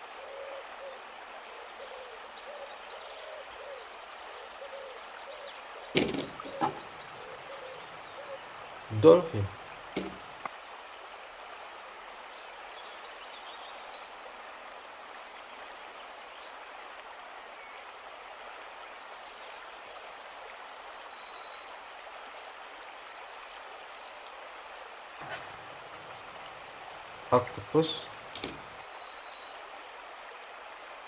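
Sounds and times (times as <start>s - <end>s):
background hiss: 0.0s - 31.0s.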